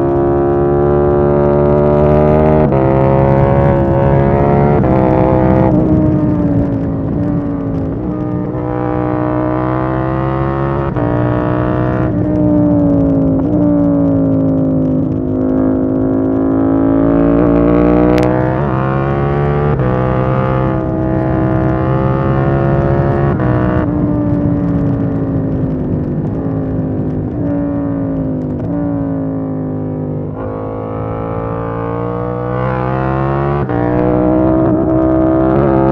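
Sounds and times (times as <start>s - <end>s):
microphone rumble: 0.0s - 35.9s
motorcycle engine accelerating: 0.0s - 35.9s.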